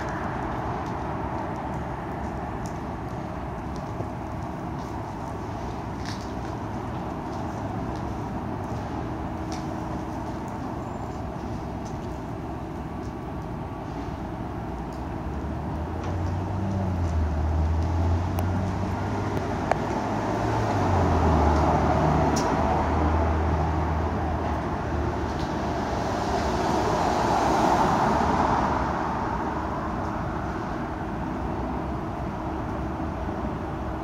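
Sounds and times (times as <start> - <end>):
car engine hum: 0.0 - 34.0
tyre and road noise: 0.0 - 34.0.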